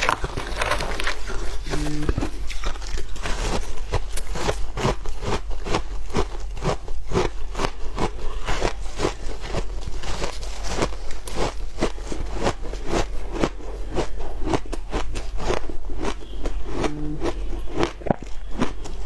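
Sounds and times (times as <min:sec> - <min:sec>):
chewing crunchy ice: 0:00.0 - 0:19.0.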